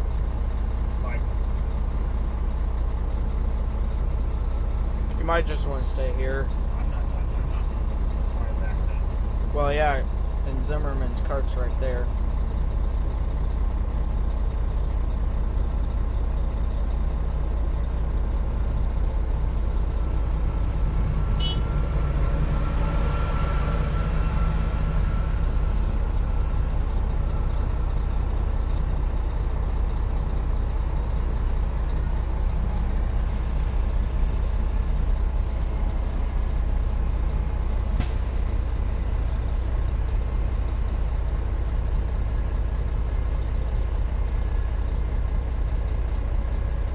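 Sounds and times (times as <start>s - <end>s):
diesel truck engine droning: 0.0s - 46.9s.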